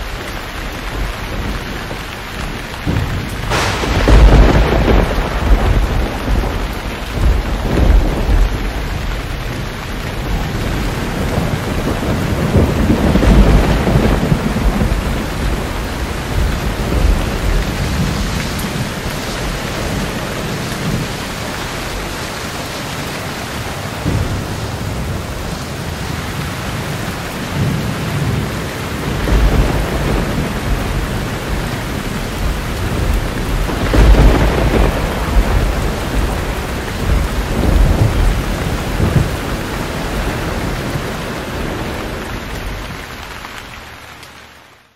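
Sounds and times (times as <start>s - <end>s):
thunder rumbling: 0.0s - 43.4s
steady rain: 0.0s - 44.9s.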